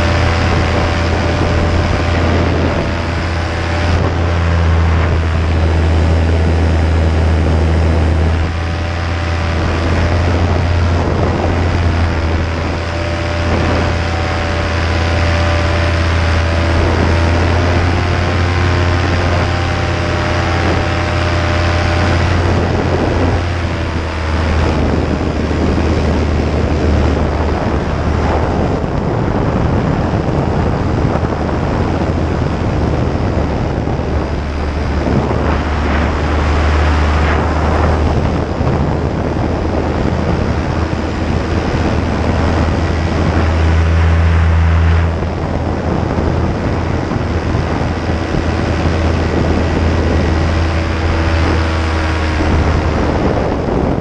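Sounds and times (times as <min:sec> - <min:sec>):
paramotor engine and propeller: 0:00.0 - 0:54.0
wind over microphone: 0:00.0 - 0:54.0.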